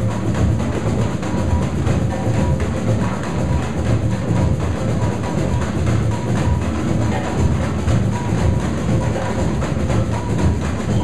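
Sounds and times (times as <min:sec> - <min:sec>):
deep bass drums: 0:00.0 - 0:11.0
rapid tamborim strokes: 0:00.0 - 0:11.0.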